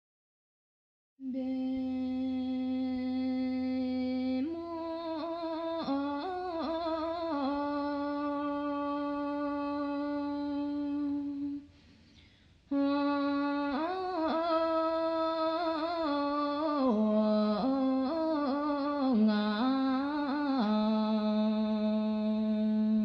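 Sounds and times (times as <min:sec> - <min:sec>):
person singing: 0:01.2 - 0:11.7, 0:12.7 - 0:23.0.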